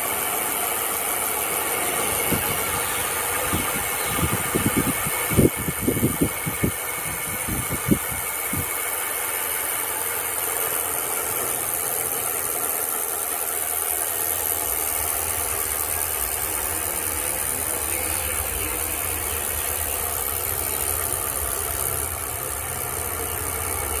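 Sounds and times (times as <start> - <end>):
bicycle hub clicking buzz: 0.0 - 24.0.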